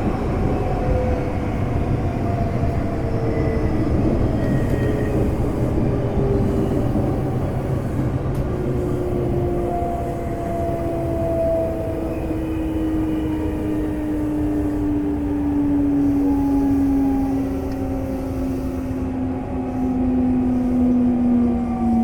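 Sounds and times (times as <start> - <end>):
train inverter whine: 0.0 - 22.0.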